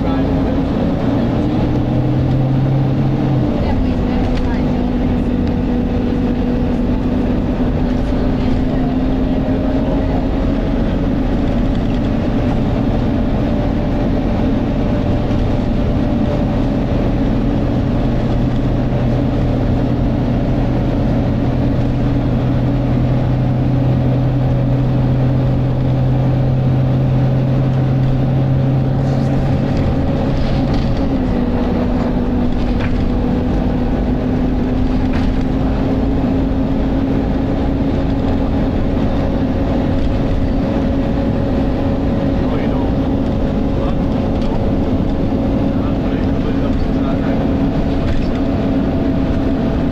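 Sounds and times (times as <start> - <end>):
bus diesel engine droning: 0.0 - 49.9
engine cooling fan: 0.0 - 49.9.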